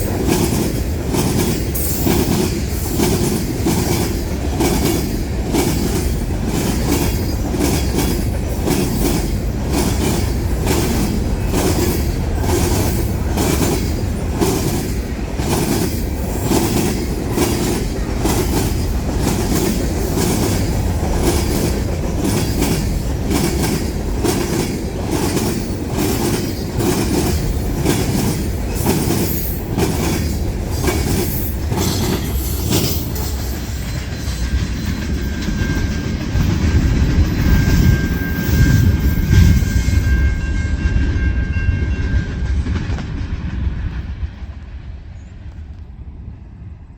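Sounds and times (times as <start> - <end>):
wheels clicking over rail joints: 0.0 - 39.6.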